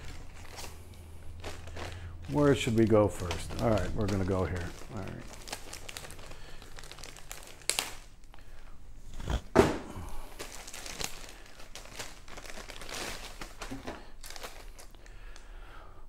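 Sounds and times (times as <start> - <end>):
plastic bags crinkling: 0.0 - 8.7, 10.2 - 15.5.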